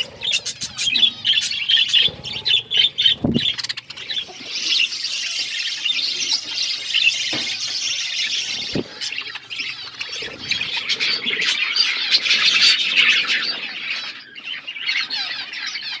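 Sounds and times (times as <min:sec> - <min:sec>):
budgerigars chirping and chattering: 0:00.0 - 0:16.0.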